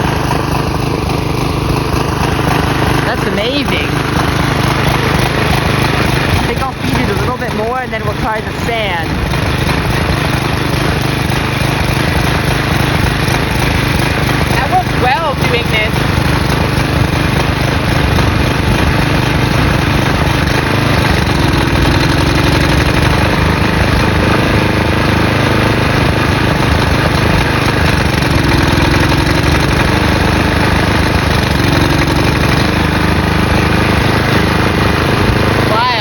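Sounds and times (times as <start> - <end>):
lawn mower engine running: 0.0 - 36.0.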